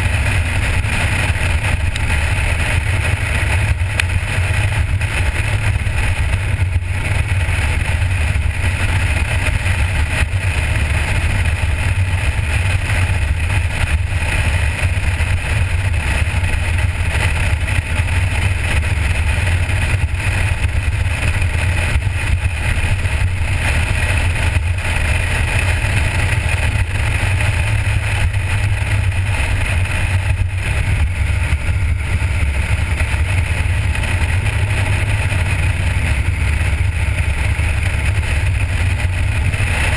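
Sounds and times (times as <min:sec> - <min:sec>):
car engine rumbling: 0:00.0 - 0:39.9
road noise: 0:00.0 - 0:39.9.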